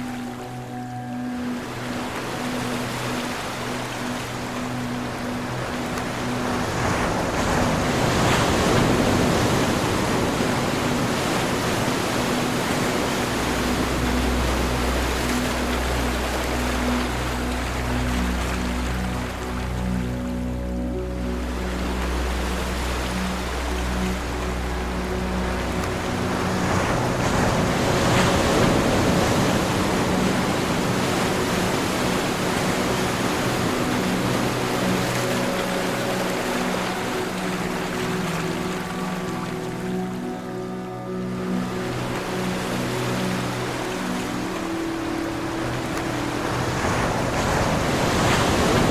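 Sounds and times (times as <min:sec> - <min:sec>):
ocean waves breaking: 0:00.0 - 0:48.9.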